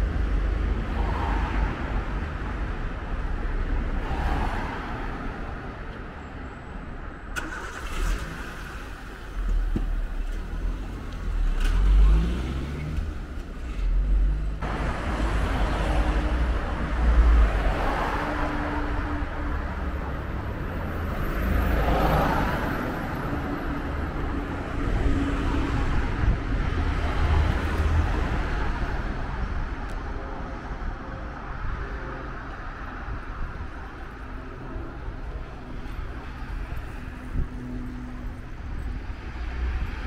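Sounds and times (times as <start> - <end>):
cars driving past: 0.0 - 6.1, 7.4 - 40.0.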